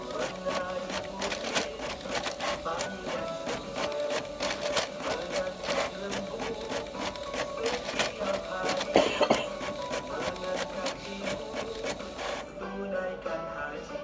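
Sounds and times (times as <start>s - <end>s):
loud printer clack: 0.0s - 12.5s
printer carriage whirring and clicking: 0.0s - 12.5s.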